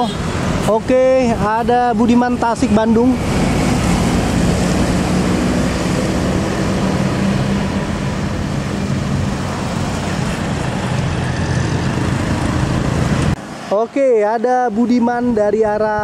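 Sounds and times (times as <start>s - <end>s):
diesel bus engine passing: 0.0s - 15.0s
passing traffic engines: 0.0s - 16.0s.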